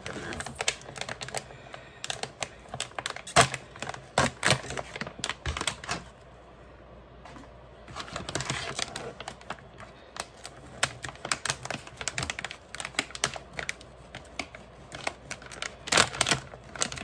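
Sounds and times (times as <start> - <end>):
foil and plastic bag crinkling: 0.0 - 6.2, 7.8 - 17.0.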